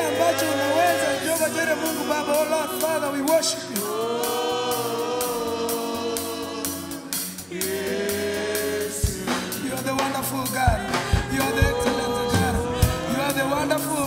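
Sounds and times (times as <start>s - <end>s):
group singing gospel: 0.0s - 14.0s
instrumental backing: 0.0s - 14.0s.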